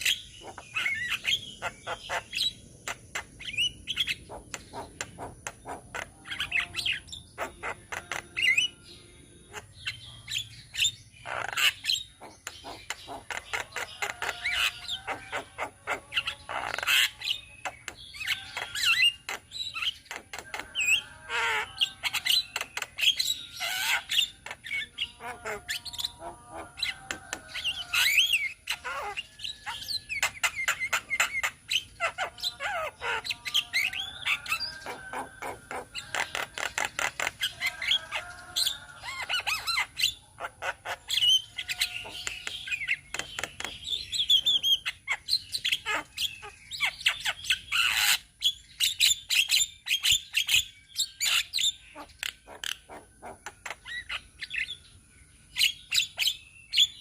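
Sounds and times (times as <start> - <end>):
birds chattering and calling: 0.0 - 57.0.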